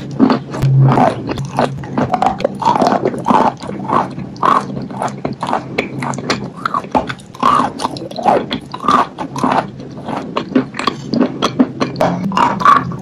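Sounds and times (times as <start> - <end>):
chalk crunching in mouth: 0.0 - 13.0
wet mouth clicks: 0.0 - 13.0.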